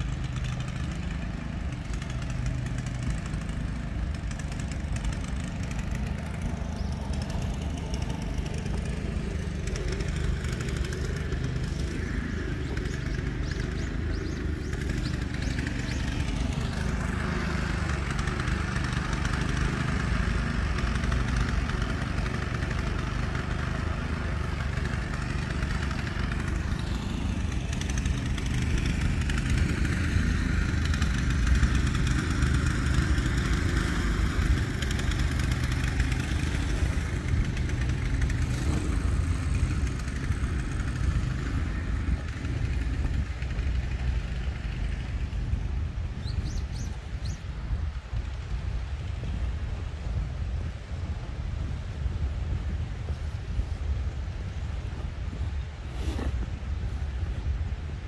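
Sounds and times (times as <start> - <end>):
road traffic rumbling: 0.0 - 58.0.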